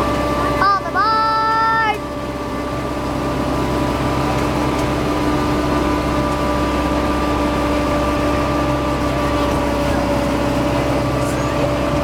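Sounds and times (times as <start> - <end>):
train engine humming and whining: 0.0 - 12.0.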